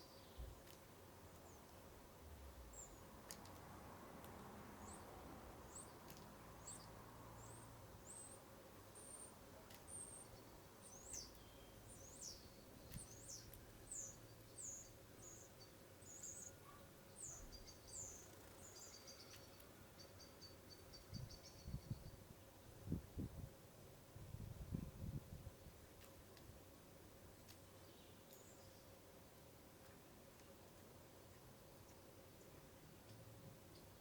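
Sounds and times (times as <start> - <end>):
songbird singing faintly: 0.0 - 34.0.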